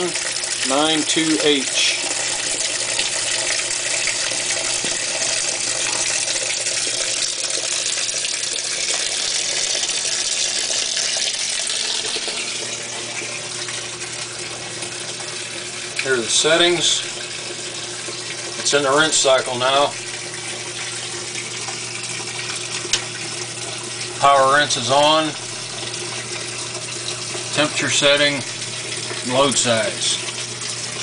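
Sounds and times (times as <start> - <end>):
water pouring into washing machine: 0.0 - 31.0.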